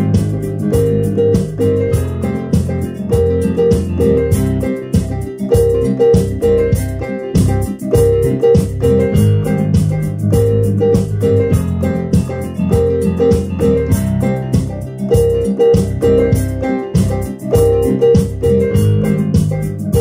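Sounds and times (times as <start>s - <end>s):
keyboard playing piano-like notes: 0.0s - 20.0s.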